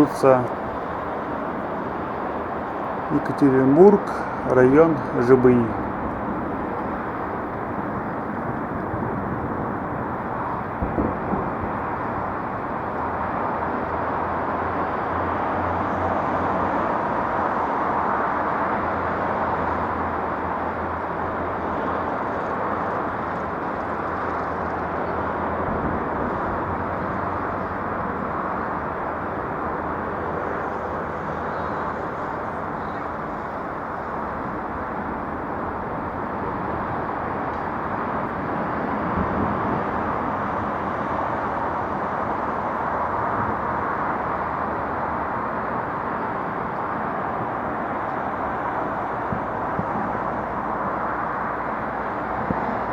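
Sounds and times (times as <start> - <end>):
distant traffic rumble: 0.0 - 52.9.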